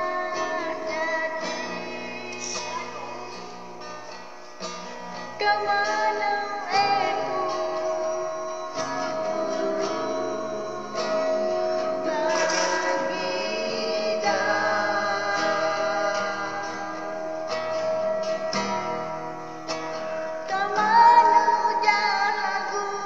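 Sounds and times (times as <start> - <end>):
person singing: 0.0 - 4.0, 5.4 - 19.0, 20.2 - 23.0
guitar chords plucked: 0.0 - 23.0.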